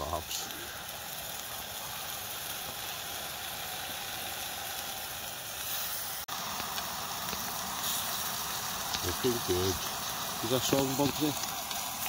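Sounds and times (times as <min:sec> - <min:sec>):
kebabs sizzling in a frying pan: 0:00.0 - 0:12.0.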